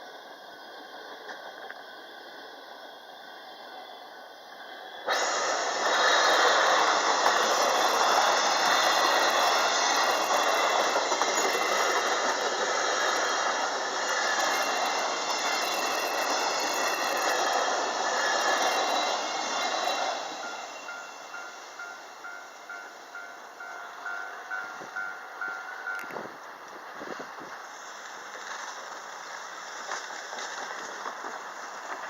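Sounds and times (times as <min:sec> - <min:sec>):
train wheels rumbling on rails: 0:05.0 - 0:32.0.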